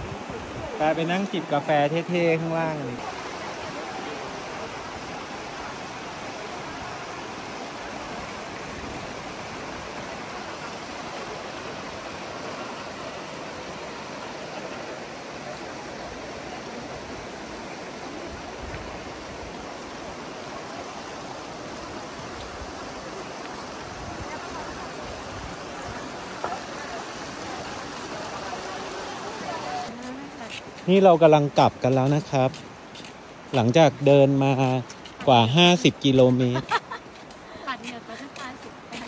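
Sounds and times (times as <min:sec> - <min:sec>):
river rushing over stones: 0:00.0 - 0:39.0.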